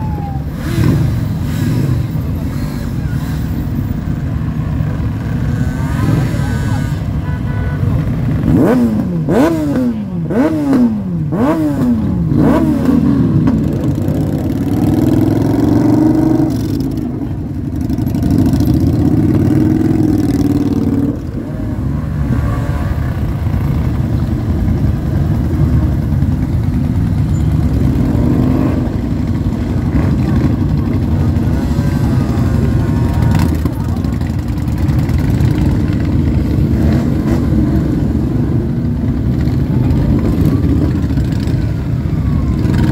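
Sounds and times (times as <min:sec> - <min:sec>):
motorcycle engines rumbling: 0:00.0 - 0:42.9
motorcycle engine revving: 0:00.5 - 0:07.0, 0:08.0 - 0:42.9.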